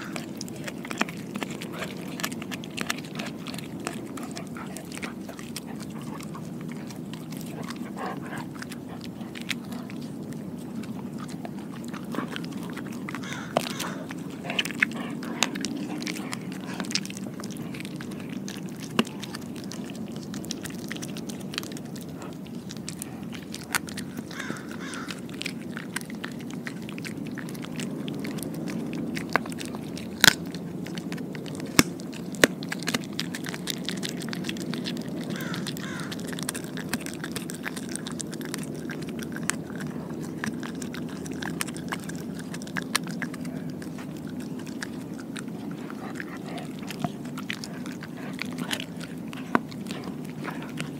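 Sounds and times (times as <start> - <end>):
dog chewing: 0.0 - 50.9
teeth crunching: 0.0 - 50.9.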